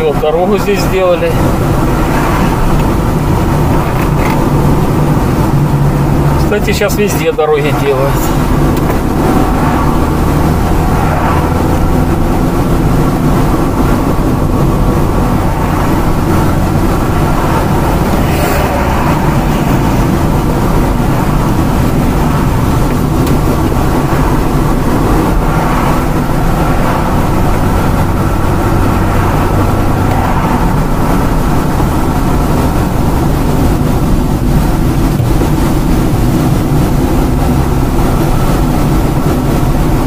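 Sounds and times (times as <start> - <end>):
car road noise from inside: 0.0 - 40.0.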